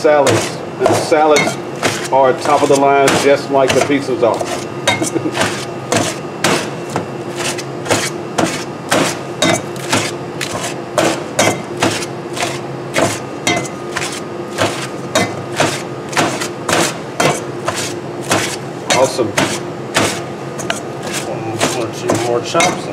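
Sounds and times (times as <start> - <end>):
blade knocking on metal bowl: 0.2 - 7.1, 7.9 - 20.8, 21.6 - 22.9
knife chopping vegetables: 0.2 - 22.9.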